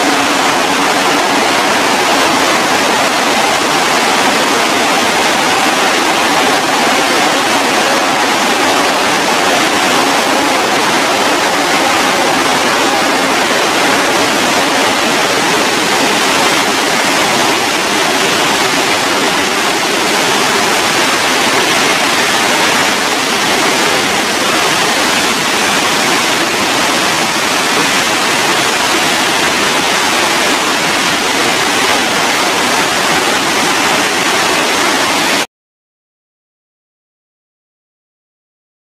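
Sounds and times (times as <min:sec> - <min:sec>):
rushing falling water: 0:00.0 - 0:35.5.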